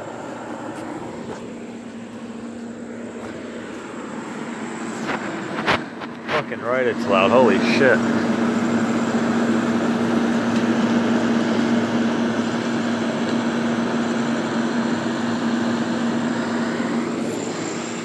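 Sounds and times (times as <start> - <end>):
air conditioner humming: 0.0 - 18.0
fan noise: 0.0 - 18.0.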